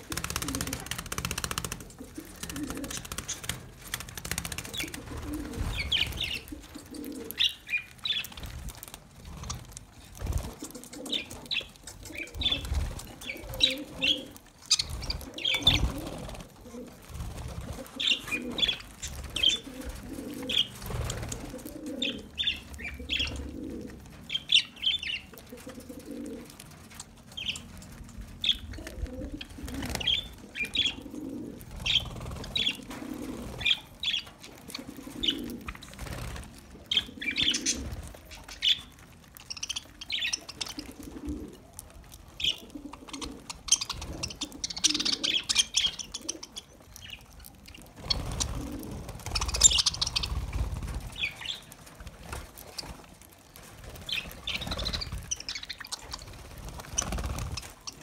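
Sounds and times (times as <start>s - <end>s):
wings fluttering: 0.0s - 58.0s.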